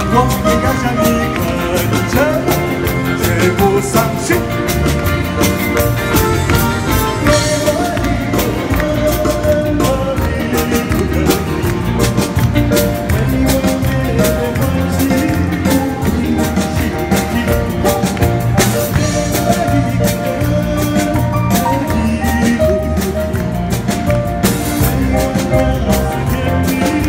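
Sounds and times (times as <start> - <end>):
person singing into microphone: 0.0 - 5.3, 7.0 - 27.0
drum kit beat: 0.0 - 27.0
electric guitar: 0.0 - 27.0
keyboard: 0.0 - 27.0
live band playing dance music: 0.0 - 27.0.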